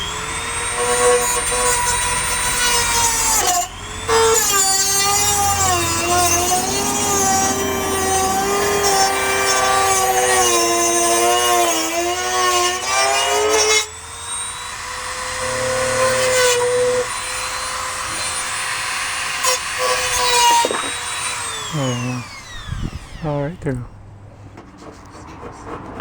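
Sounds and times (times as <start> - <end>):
power tool motor running: 0.0 - 23.9.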